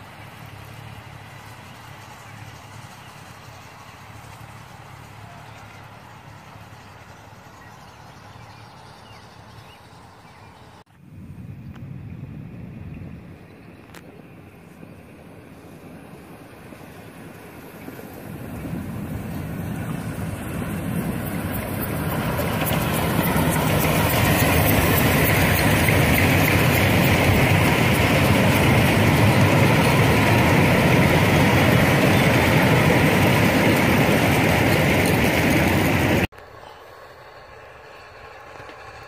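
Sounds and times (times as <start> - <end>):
miniature train running past: 0.0 - 10.8, 13.6 - 39.0.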